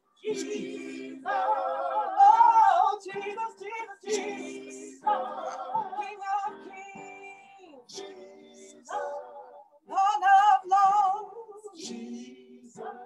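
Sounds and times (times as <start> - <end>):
voices singing slow chant: 0.0 - 7.0, 7.6 - 9.7, 11.0 - 13.0.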